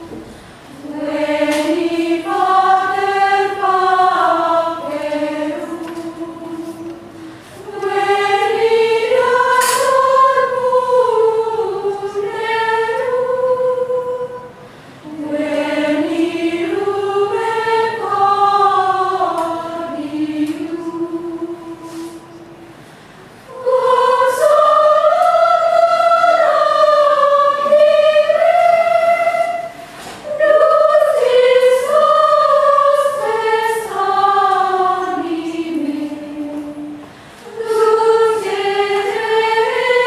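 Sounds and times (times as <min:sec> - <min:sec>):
women's choir chanting in unison: 0:00.0 - 0:22.7, 0:23.5 - 0:40.0.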